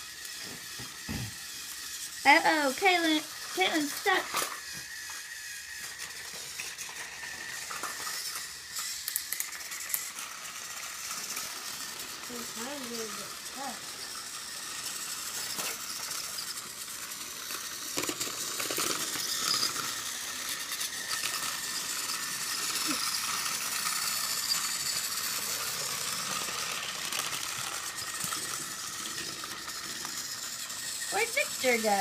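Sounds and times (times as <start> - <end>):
toy pieces clicking and rattling: 0.0 - 32.0.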